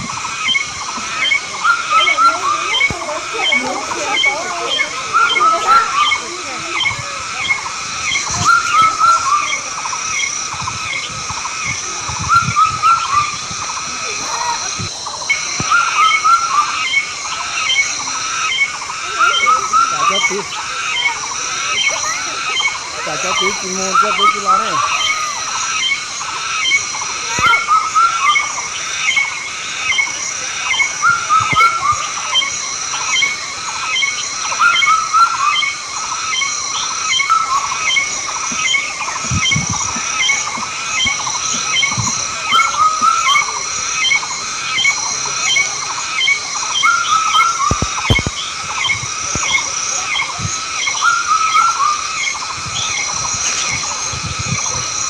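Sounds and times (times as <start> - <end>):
high-pitched pulsing drone: 0.0 - 55.0
animal chirps: 0.1 - 55.0.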